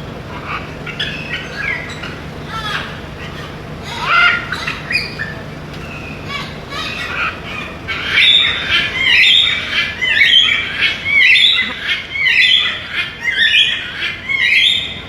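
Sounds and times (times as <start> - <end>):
parakeet calling: 0.0 - 15.0.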